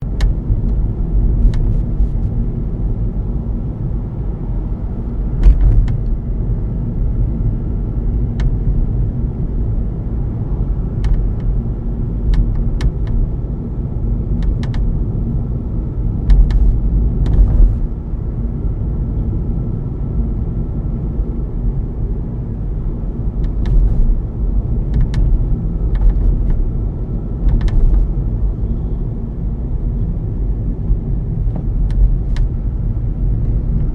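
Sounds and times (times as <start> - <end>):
car driving rumble: 0.0 - 33.9.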